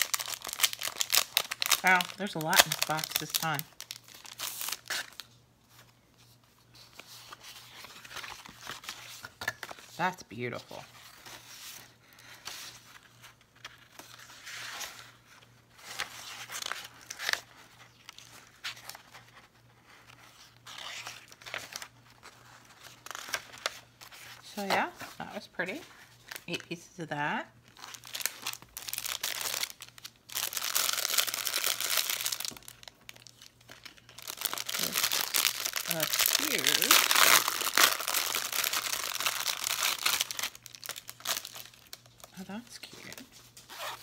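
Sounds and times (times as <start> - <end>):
paper rustling and crinkling: 0.0 - 10.0, 10.6 - 26.5, 27.7 - 44.0.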